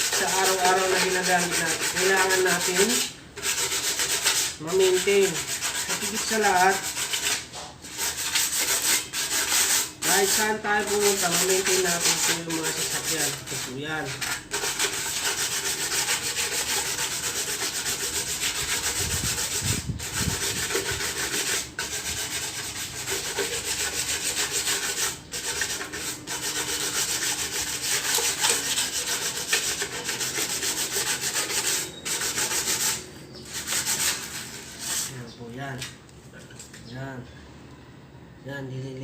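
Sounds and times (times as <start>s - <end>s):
sandpaper scrubbing metal: 0.0s - 35.2s.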